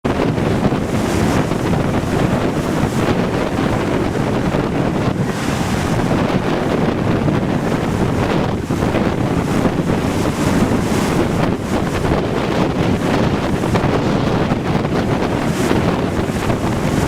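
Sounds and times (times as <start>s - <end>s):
heavy surf breaking: 0.0s - 17.0s
wind buffeting microphone: 0.0s - 17.0s.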